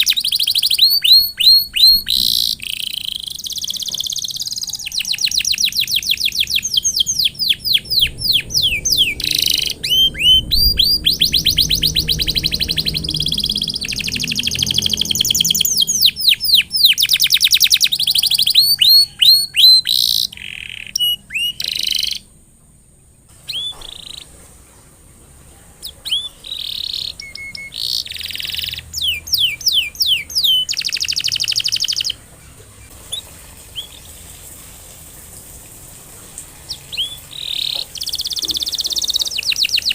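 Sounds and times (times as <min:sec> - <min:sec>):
canary singing trills: 0:00.0 - 0:22.4, 0:23.3 - 0:24.4, 0:25.8 - 0:34.2, 0:36.7 - 0:39.9.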